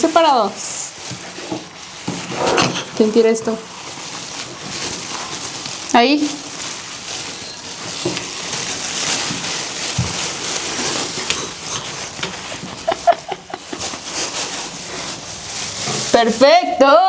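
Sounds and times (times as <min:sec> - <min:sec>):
batter sizzling in a pan: 0:00.0 - 0:16.8.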